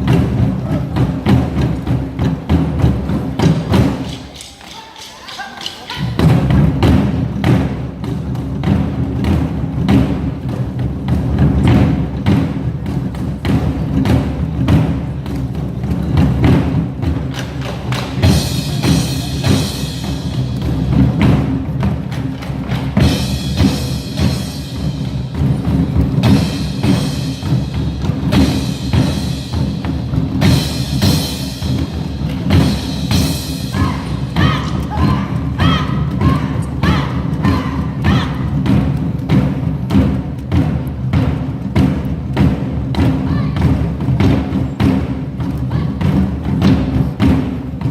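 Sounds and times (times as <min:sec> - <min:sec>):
drums beaten with sticks: 0:00.0 - 0:47.9.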